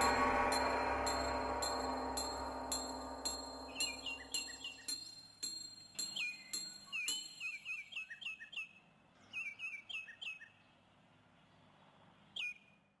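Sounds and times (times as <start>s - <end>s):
bird chirps: 0.0s - 10.6s.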